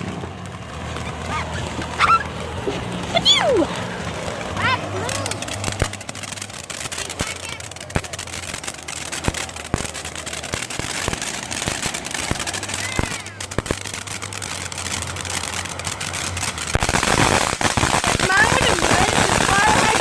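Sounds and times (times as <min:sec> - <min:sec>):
fireworks popping and crackling: 0:00.0 - 0:20.0
firework whistles: 0:00.7 - 0:20.0.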